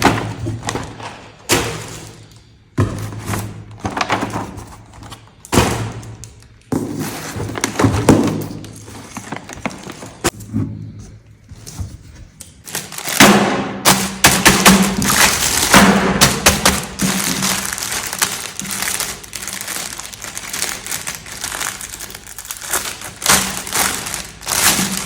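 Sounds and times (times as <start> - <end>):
packaging rustling: 0.0 - 5.7, 6.3 - 10.4, 11.5 - 13.2, 13.9 - 25.0.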